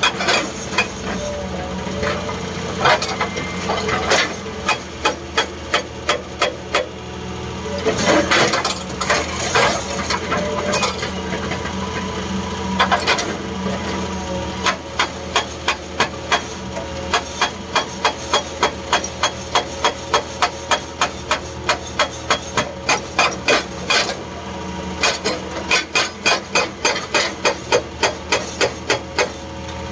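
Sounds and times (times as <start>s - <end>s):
hydraulic breaker hammering rock: 0.0s - 1.4s, 2.0s - 7.0s, 7.8s - 12.1s, 12.8s - 14.0s, 14.6s - 24.2s, 25.0s - 29.5s
excavator engine drone: 0.0s - 29.9s.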